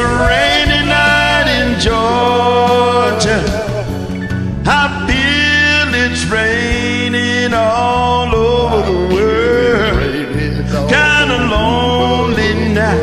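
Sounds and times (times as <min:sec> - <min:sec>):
karaoke backing track: 0:00.0 - 0:13.0
men singing wordless notes: 0:00.0 - 0:13.0.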